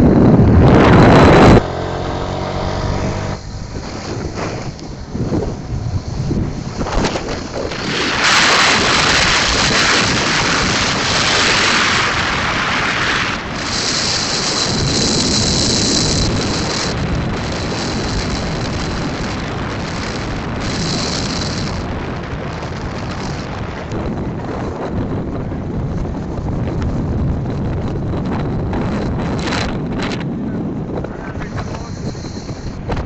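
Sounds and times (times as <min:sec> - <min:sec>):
motorcycle engine: 0:00.0 - 0:30.5
road noise: 0:00.0 - 0:33.0
wind rushing over microphone: 0:00.0 - 0:33.0.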